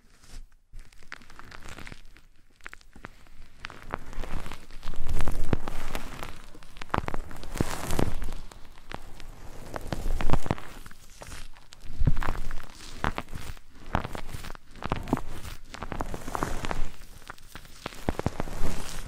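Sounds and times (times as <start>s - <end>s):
crackling and rustling: 0.0s - 19.0s.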